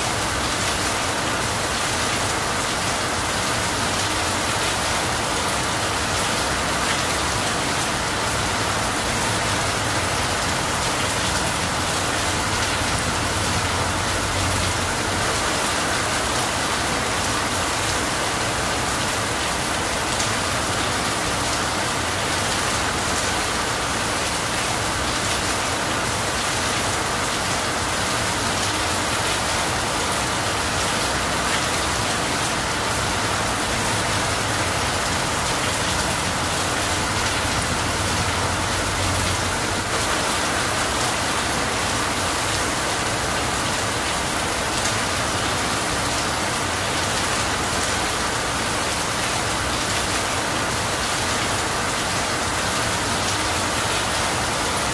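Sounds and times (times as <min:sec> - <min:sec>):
rain on leafy tree: 0:00.0 - 0:54.9
rain running off roof: 0:00.0 - 0:54.9.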